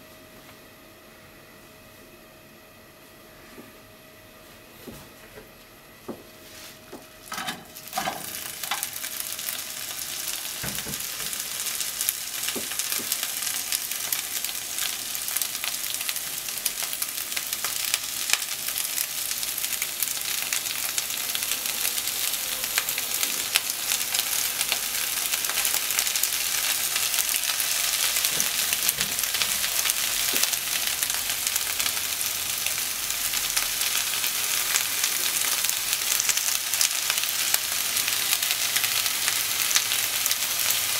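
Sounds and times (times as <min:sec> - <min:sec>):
vegetables sizzling in oil: 0:06.4 - 0:40.9.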